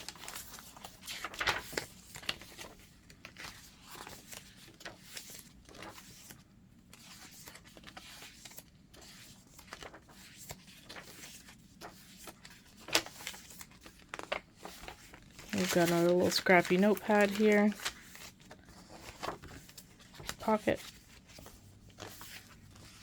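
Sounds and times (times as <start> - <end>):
paper pages rustling: 0.0 - 23.0.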